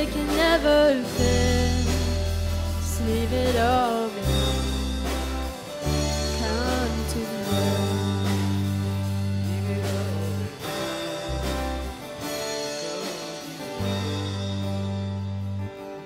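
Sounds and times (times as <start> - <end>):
acoustic guitar: 0.0 - 16.0
held bass notes: 0.0 - 16.0
keyboard: 0.0 - 16.0.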